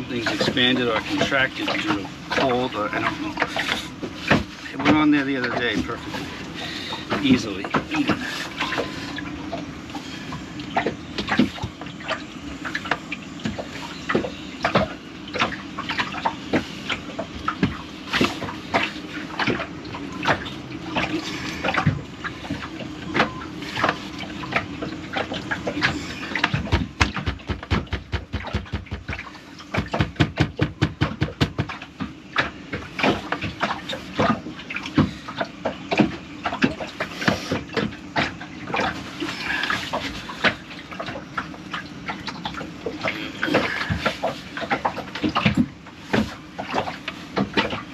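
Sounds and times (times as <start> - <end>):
pump parts clicking and knocking: 0.0 - 9.7, 10.3 - 47.9.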